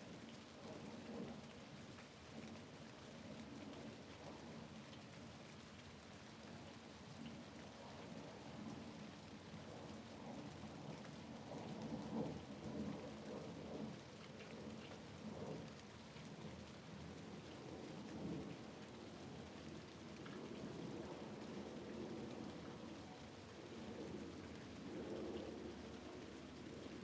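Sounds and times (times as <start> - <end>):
rain falling against a window: 0.0 - 27.0.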